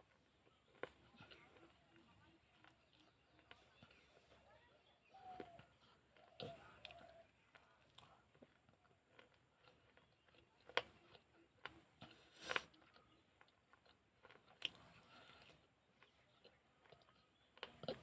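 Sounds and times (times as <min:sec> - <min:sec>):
faint chewing clicks: 0:00.0 - 0:18.0
teeth crunching clay pot: 0:00.0 - 0:18.0.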